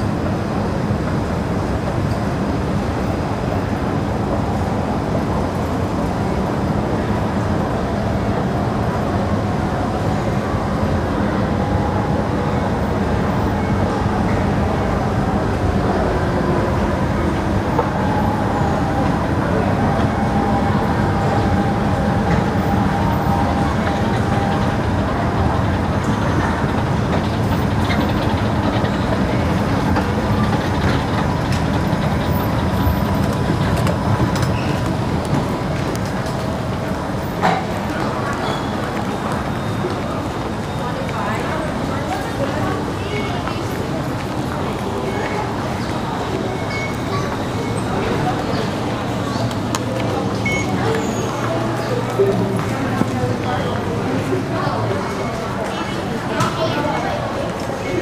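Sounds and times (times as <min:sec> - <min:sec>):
escalator rumble and hum: 0:00.0 - 0:58.0.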